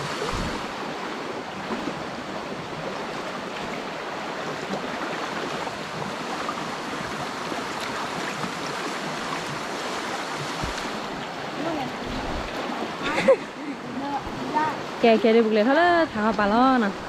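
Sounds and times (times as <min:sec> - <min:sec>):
stream water running over rocks: 0:00.0 - 0:17.0.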